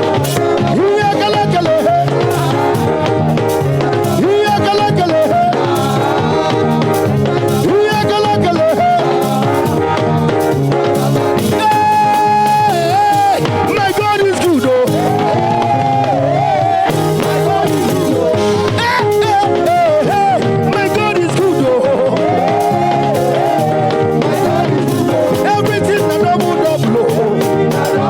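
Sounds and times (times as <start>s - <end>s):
band playing dance groove: 0.0s - 28.0s
drums: 0.0s - 28.0s
people singing: 0.0s - 28.0s.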